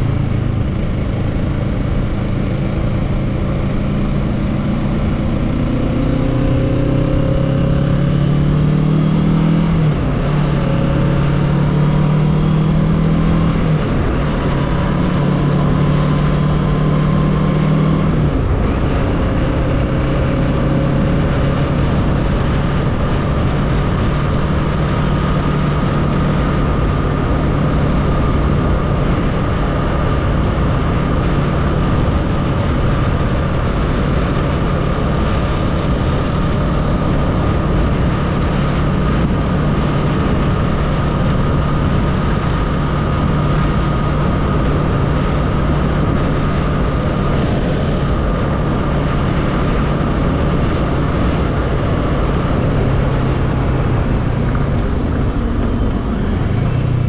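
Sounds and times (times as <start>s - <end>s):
motorcycle engine cruising: 0.0s - 57.0s
wind noise: 0.0s - 57.0s.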